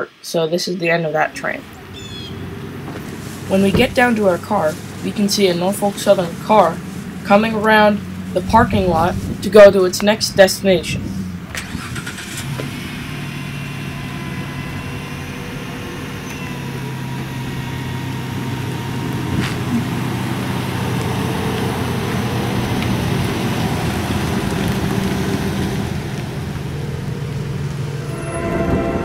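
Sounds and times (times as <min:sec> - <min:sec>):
vehicle engine humming: 0:01.1 - 0:29.0.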